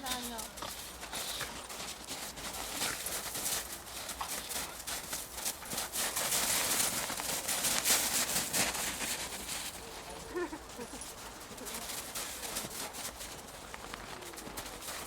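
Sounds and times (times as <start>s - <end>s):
footsteps crunching on forest floor: 0.0s - 15.0s.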